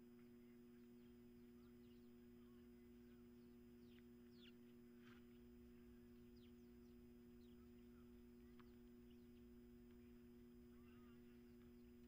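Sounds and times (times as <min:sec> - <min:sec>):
faint bird chirps: 0:00.0 - 0:12.0
faint steady hum: 0:00.0 - 0:12.0.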